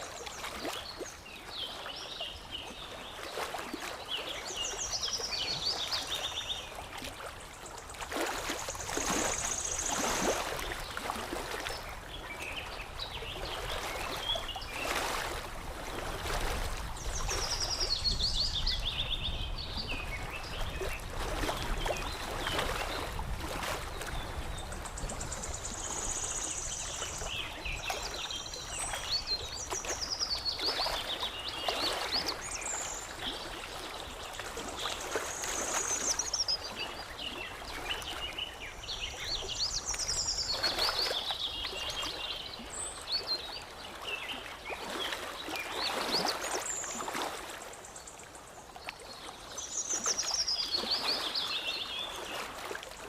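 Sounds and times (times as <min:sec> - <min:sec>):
songbirds chirping: 0:00.0 - 0:53.0
water lapping and trickling: 0:00.0 - 0:53.0.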